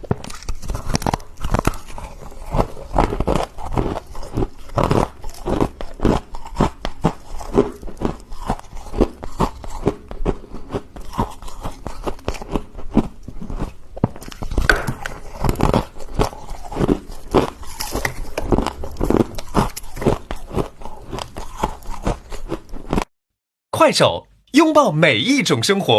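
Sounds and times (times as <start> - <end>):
crunchy chewing of frost: 0.0 - 23.1.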